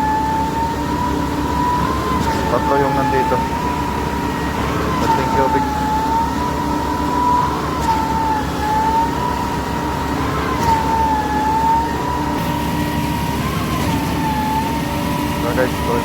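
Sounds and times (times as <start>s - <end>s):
concrete pump engine rumble: 0.0s - 16.0s
pump whine rising and falling: 0.0s - 16.0s.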